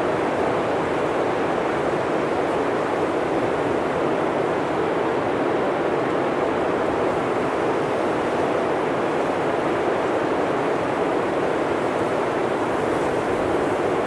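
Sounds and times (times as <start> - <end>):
blizzard wind through trees: 0.0 - 14.0.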